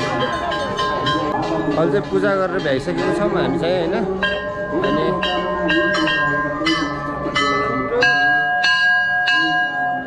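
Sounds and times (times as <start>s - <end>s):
brass bells clanging: 0.0s - 10.0s.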